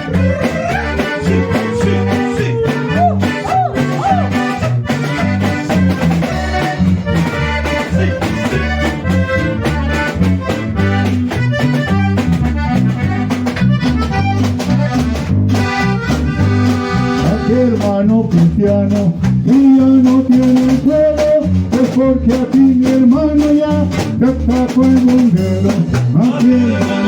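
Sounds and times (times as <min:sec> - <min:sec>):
accordion melody: 0:00.0 - 0:27.0
drums with steady beat: 0:00.0 - 0:27.0
walking bass line: 0:00.0 - 0:27.0.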